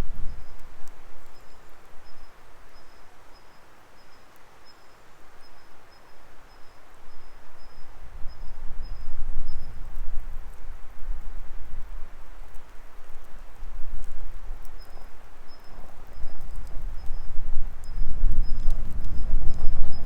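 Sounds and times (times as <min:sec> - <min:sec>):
faint fire crackles: 0:00.0 - 0:20.0
wood fire hissing: 0:03.7 - 0:20.0.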